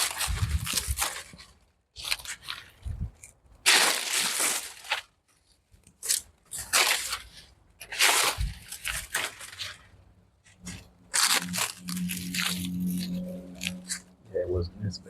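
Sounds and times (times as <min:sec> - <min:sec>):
dry leaves tearing and rustling: 0:00.0 - 0:05.1, 0:05.9 - 0:09.9, 0:10.6 - 0:14.0.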